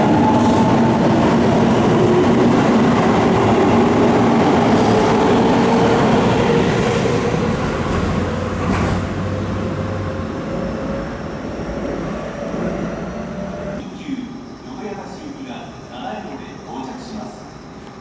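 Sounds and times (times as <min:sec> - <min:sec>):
electric train pulling away: 0:00.0 - 0:18.0.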